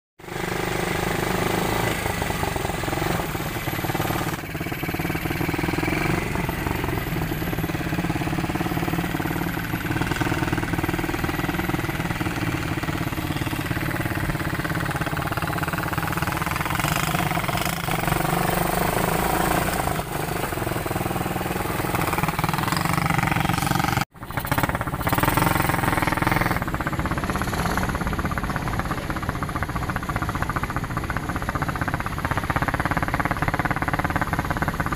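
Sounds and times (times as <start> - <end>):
atv engine revving: 0.2 - 34.9.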